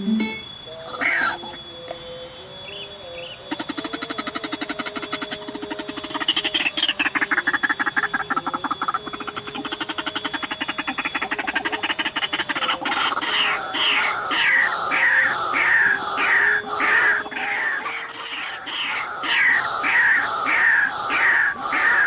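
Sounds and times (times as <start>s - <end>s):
bird harsh croaking chatter: 2.7s - 22.0s.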